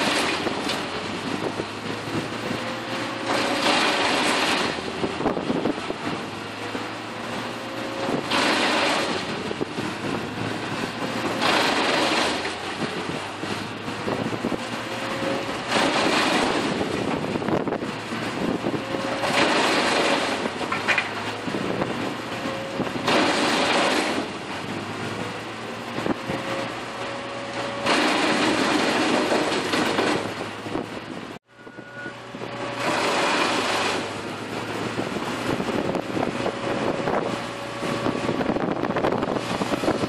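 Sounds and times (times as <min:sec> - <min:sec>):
diesel machinery running: 0:00.0 - 0:40.0.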